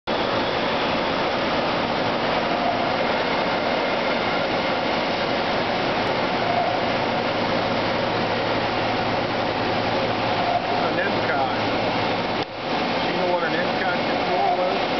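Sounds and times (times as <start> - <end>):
milling machine running: 0.1 - 14.9.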